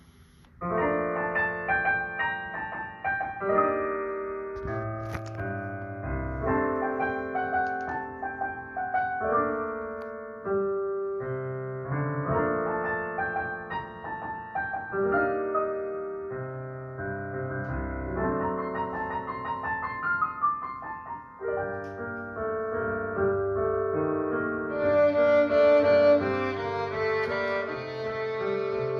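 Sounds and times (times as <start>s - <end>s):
solo piano: 0.0s - 28.9s.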